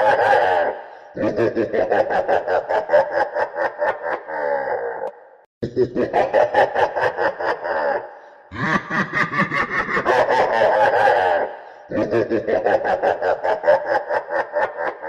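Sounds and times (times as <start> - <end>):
evil laugh: 0.0 - 15.0.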